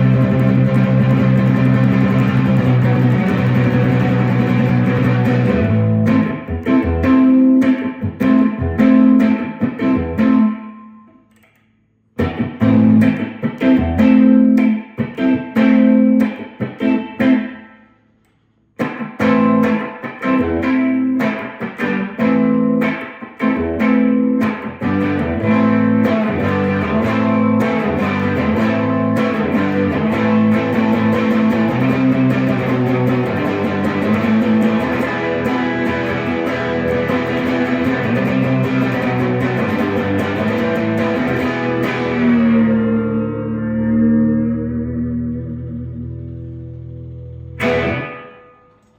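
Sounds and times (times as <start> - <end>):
electric guitar through amplifier: 0.0 - 48.9.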